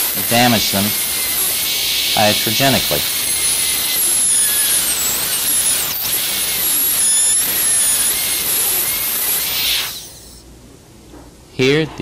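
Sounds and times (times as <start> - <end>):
dental drill whine: 0.0 - 10.5.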